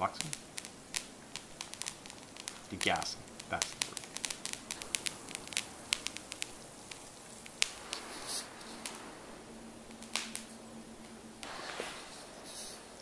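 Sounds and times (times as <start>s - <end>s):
faint steady hum: 0.0s - 13.0s
molten metal crackling and popping: 0.0s - 13.0s.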